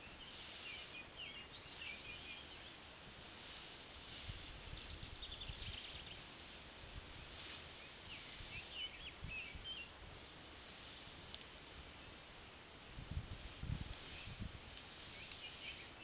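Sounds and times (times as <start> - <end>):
songbird chirping: 0.0 - 12.6, 13.6 - 16.0
faint outdoor noise: 0.0 - 16.0.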